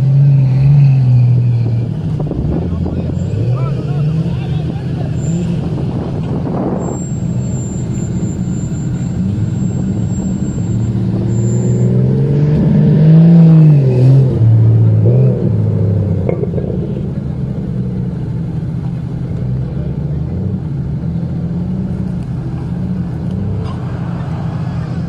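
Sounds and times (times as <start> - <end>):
engine revving: 0.0 - 25.0.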